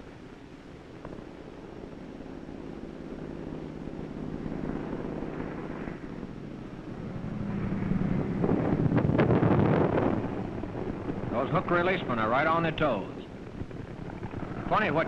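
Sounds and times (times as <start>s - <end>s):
piston aircraft engine droning: 0.0s - 15.0s.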